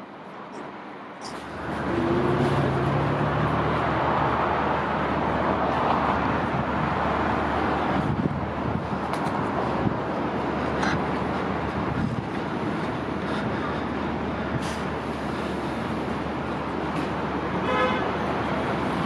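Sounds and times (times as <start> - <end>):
road noise: 0.0 - 19.0
motor vehicle running: 1.4 - 17.4.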